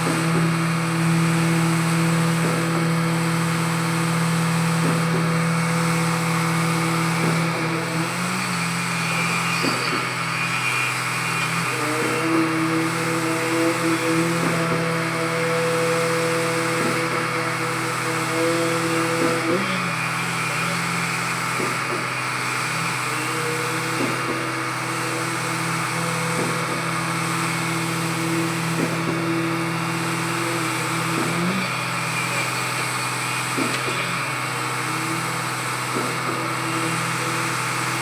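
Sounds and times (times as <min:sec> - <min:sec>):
concrete pump running: 0:00.0 - 0:38.0.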